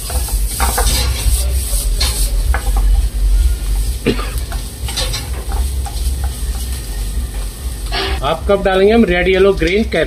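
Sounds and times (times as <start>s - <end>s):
spatula scraping and knocking pan: 0.0s - 8.2s
vegetables sizzling in a pan: 0.0s - 9.9s.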